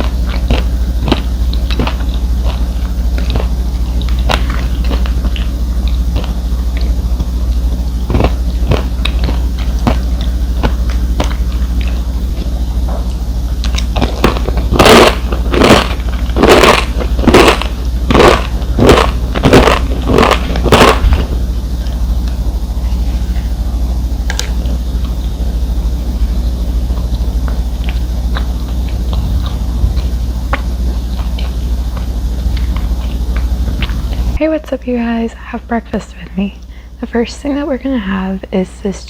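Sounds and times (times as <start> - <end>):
person chewing food: 0.0 - 34.4
steady low hum: 0.0 - 39.0.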